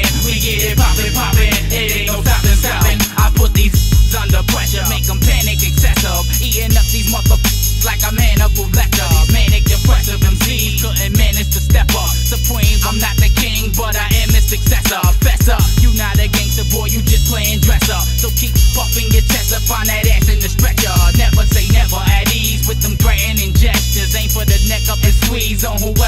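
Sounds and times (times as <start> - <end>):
heavy bass beat: 0.0 - 26.0
man rapping: 0.0 - 26.0.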